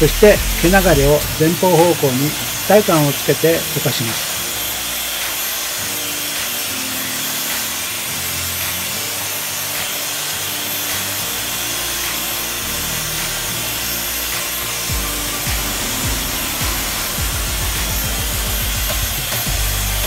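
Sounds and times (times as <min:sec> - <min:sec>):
hair dryer blowing air: 0:00.0 - 0:20.0.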